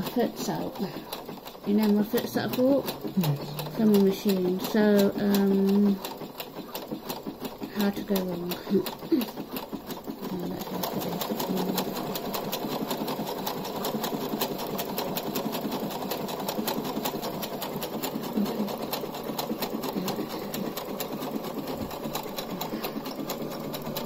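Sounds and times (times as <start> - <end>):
sewing machine running: 0.0 - 24.0.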